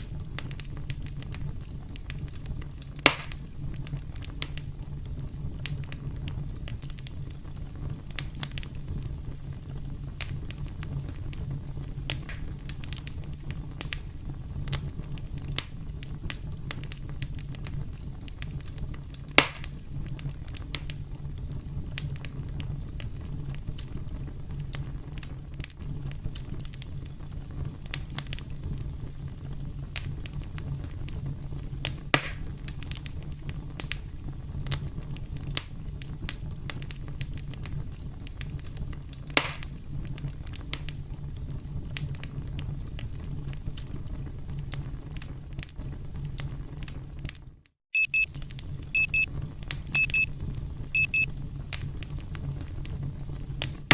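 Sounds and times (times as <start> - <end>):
campfire crackling: 0.0 - 47.4
loud sharp pops of fire: 0.0 - 47.4.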